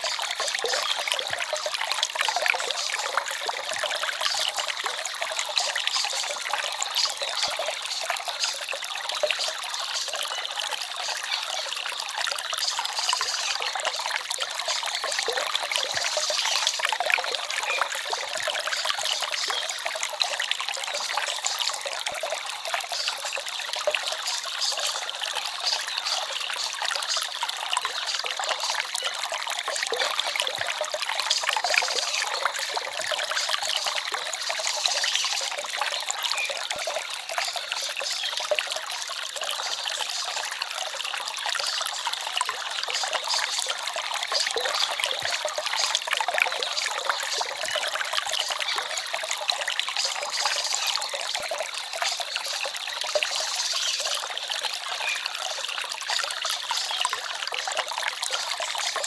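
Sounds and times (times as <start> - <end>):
stream trickling and babbling: 0.0 - 59.0.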